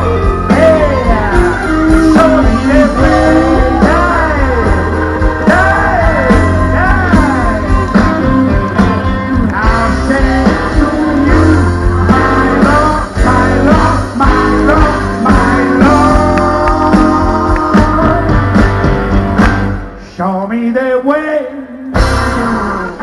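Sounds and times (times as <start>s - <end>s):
live blues-rock band: 0.0s - 20.2s, 21.8s - 23.0s.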